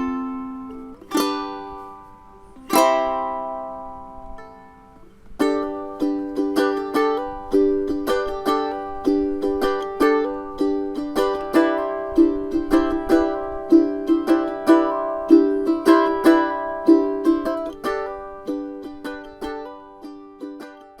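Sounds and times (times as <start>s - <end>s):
plucked-string melody: 0.0s - 21.0s.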